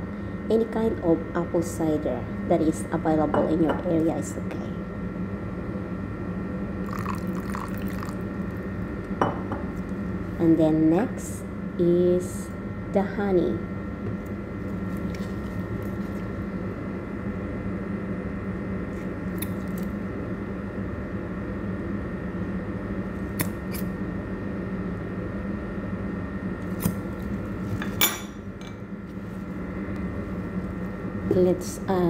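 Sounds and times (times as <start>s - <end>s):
background hum: 0.0s - 32.0s.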